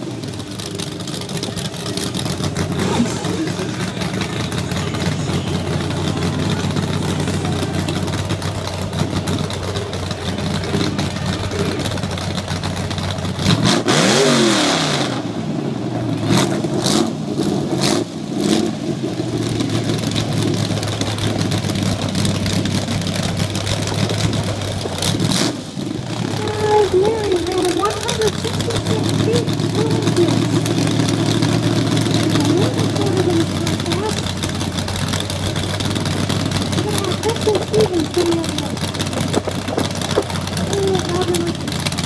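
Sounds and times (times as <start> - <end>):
truck engine running and revving: 0.0 - 42.0.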